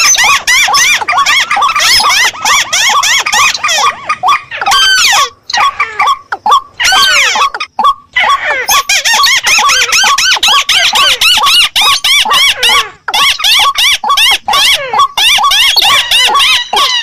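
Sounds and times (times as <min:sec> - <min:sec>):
recorded waterbird calls: 0:00.0 - 0:17.0.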